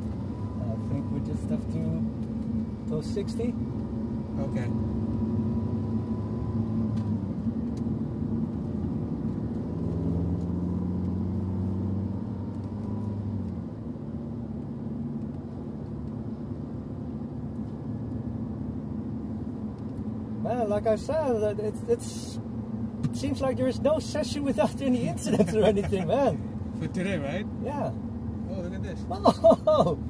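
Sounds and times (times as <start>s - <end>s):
car engine: 0.0s - 30.0s
road noise inside car: 0.0s - 30.0s.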